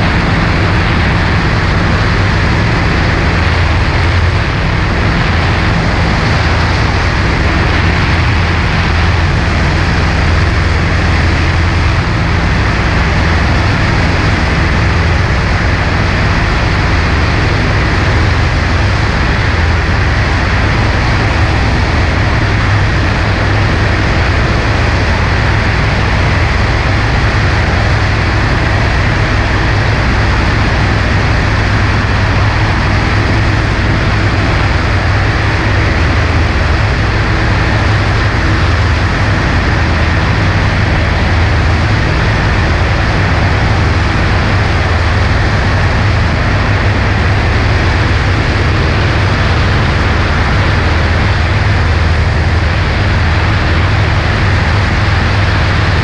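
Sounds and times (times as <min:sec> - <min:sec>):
light aircraft engine drone: 0:00.0 - 0:56.0
wind noise on microphone: 0:00.0 - 0:56.0.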